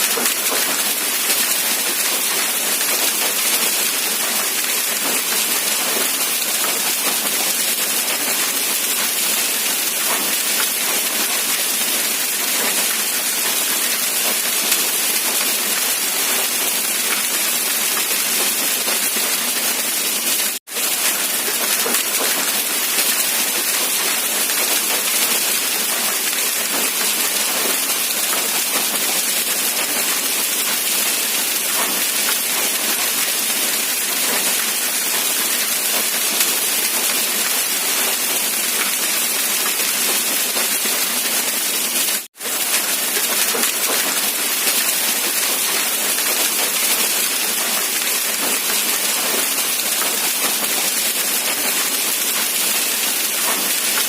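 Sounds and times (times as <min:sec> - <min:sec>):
rain falling steadily: 0:00.0 - 0:54.0.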